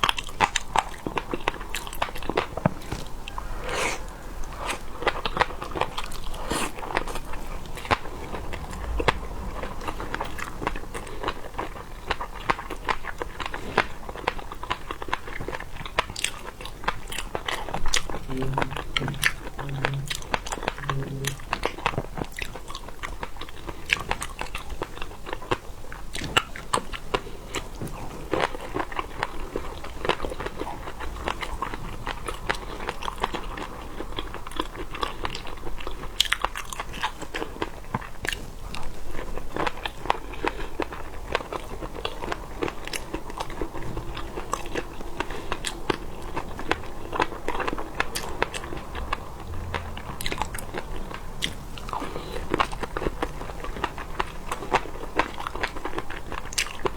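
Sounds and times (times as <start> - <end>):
person chewing crunchy seafood: 0.0 - 56.9.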